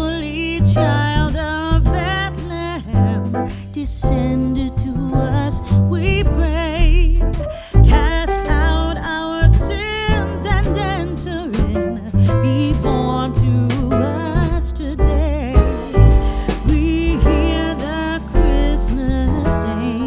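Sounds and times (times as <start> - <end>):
acoustic guitar: 0.0 - 20.0
bass line: 0.0 - 20.0
person singing with vibrato: 0.0 - 20.0.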